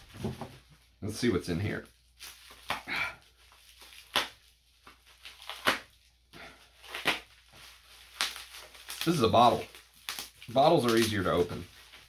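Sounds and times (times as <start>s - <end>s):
packaging rustling: 1.8s - 12.0s.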